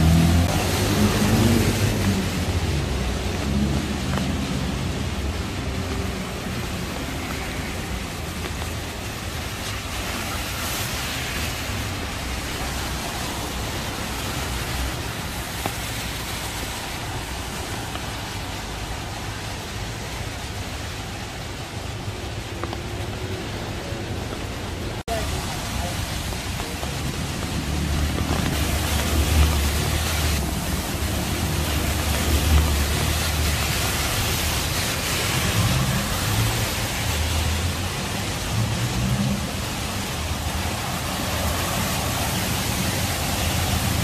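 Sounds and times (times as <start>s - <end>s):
rain on pavement: 0.0s - 44.0s
traffic on wet street: 0.0s - 44.0s
vehicle engine rumble: 0.0s - 44.0s.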